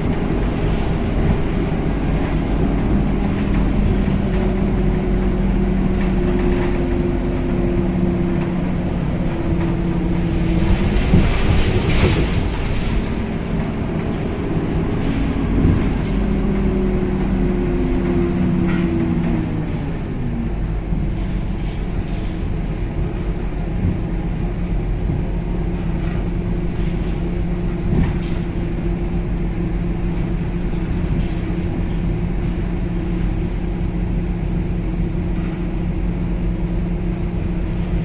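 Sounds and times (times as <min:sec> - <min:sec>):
bus engine and drivetrain hum: 0:00.0 - 0:38.0.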